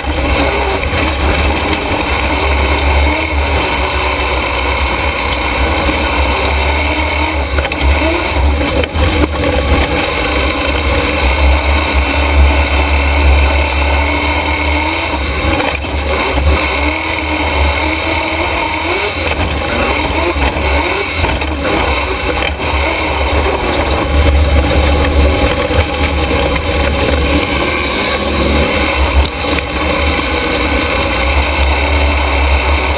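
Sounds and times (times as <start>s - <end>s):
race truck engine rumbling: 0.0s - 32.9s.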